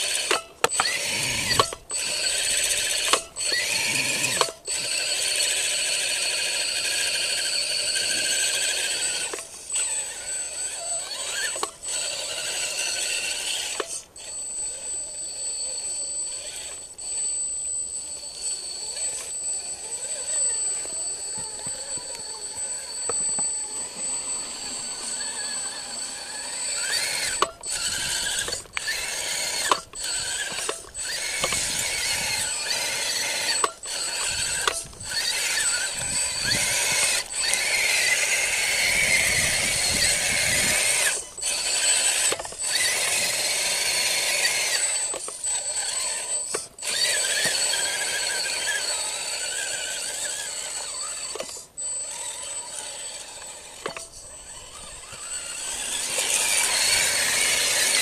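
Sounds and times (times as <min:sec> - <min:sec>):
electric motor whining: 0:00.0 - 0:58.0.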